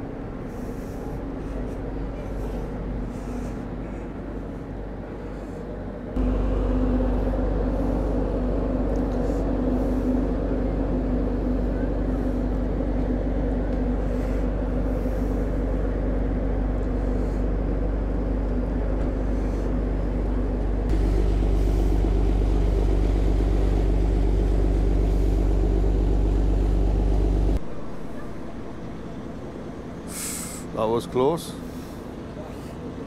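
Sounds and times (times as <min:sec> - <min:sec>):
ship engines humming: 0:00.0 - 0:33.0.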